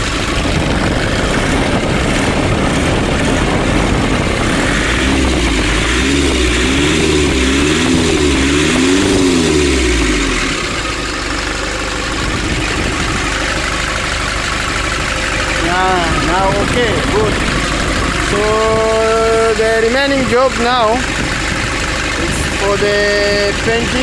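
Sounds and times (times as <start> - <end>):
diesel van engine revving: 0.0 - 24.0.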